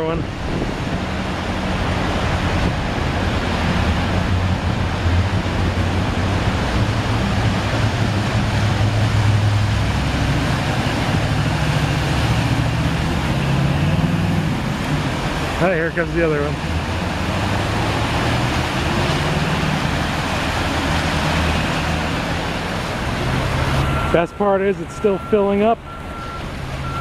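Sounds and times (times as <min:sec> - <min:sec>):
water rushing and splashing: 0:00.0 - 0:27.0.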